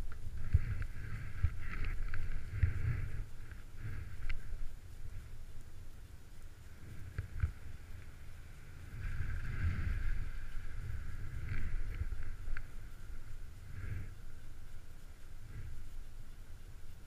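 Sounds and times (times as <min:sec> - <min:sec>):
faint clicks: 0:00.0 - 0:17.0
wind buffeting microphone: 0:00.0 - 0:17.0.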